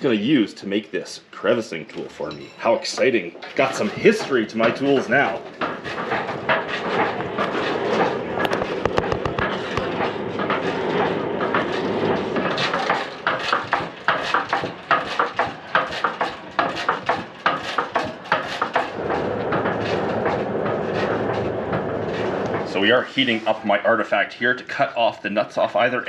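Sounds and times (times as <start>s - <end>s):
sharp irregular clicks and knocks: 1.9s - 22.8s
forge rushing noise: 3.0s - 26.0s.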